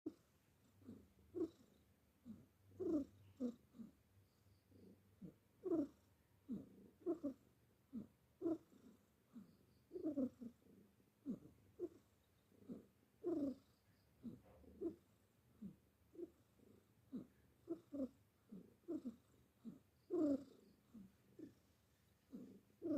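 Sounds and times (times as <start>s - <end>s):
cat snoring: 0.1s - 22.9s.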